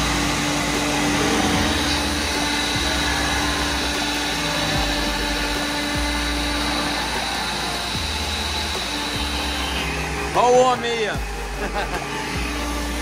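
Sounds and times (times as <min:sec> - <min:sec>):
small electric motor running: 0:00.0 - 0:13.0.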